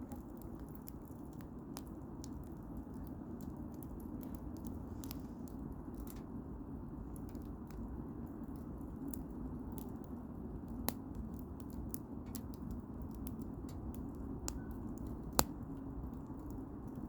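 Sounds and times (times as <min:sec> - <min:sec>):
open fire crackling: 0:00.0 - 0:17.0.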